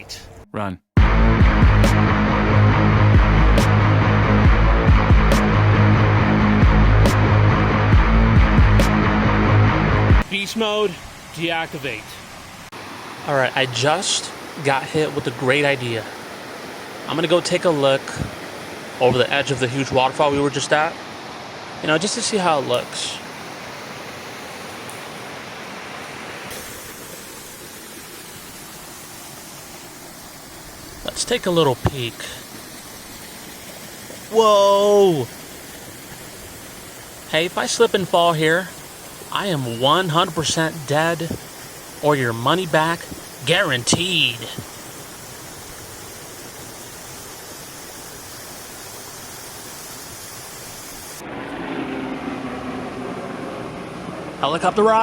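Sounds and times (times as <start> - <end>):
waterfall rushing: 1.6 - 55.0.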